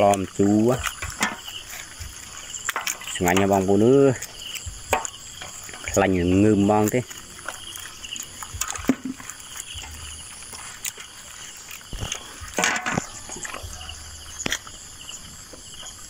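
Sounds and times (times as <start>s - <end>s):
insects shrilling: 0.0s - 16.0s
rustling splash: 0.0s - 16.0s.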